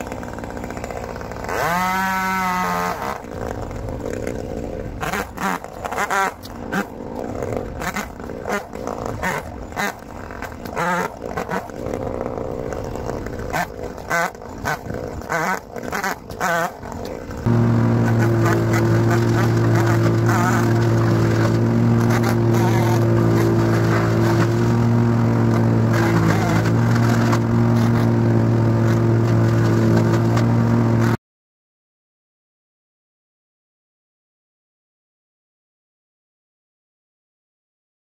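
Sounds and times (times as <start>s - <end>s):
engine revving bursts: 0.0s - 16.7s, 17.3s - 31.2s
steady engine drone: 0.0s - 31.2s.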